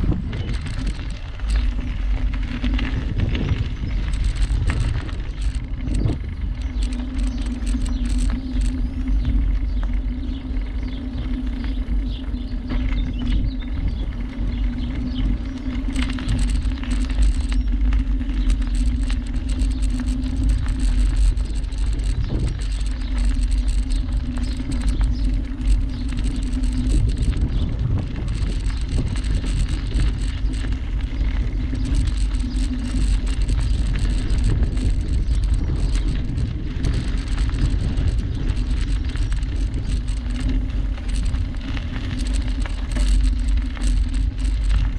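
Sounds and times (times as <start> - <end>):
bicycle tyre rumble: 0.0 - 44.9
bike rattles and clicks: 0.0 - 44.9
wind rumble on microphone: 0.0 - 44.9.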